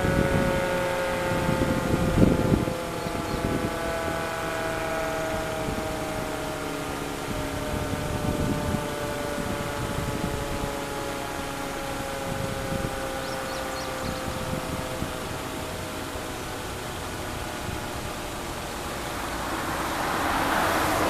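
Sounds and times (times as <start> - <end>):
low rumbling noise: 0.0 - 21.0
two-tone warning siren: 0.0 - 21.0.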